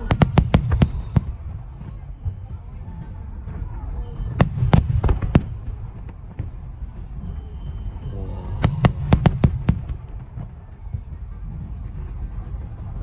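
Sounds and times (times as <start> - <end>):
fireworks cracking: 0.0 - 13.0
low rumble: 0.0 - 13.0.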